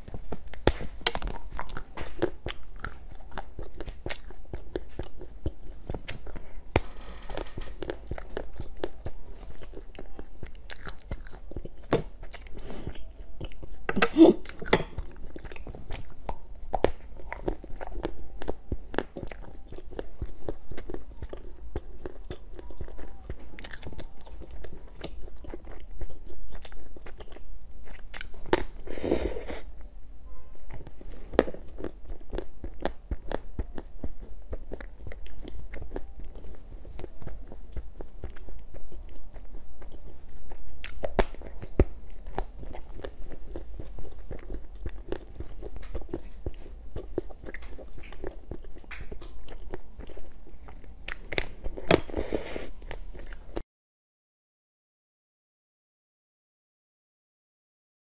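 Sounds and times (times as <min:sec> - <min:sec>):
chewing: 0:00.0 - 0:06.6, 0:07.2 - 0:29.9, 0:30.6 - 0:53.6.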